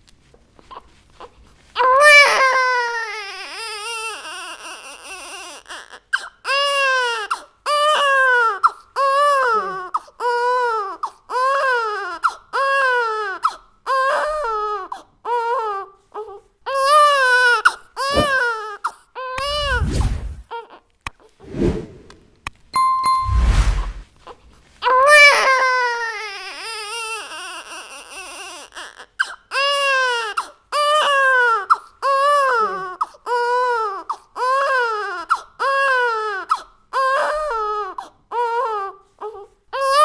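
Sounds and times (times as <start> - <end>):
baby crying: 1.8 - 19.8, 24.3 - 40.0.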